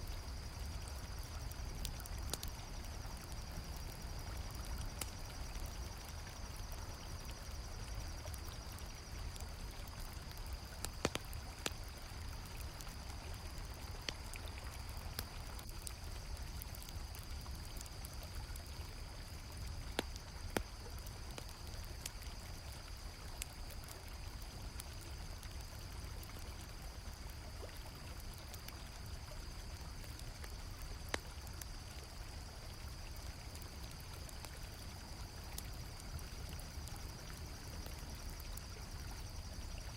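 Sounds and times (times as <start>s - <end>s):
campfire crackling pops: 0.0s - 39.9s
crickets chirring: 0.0s - 39.9s.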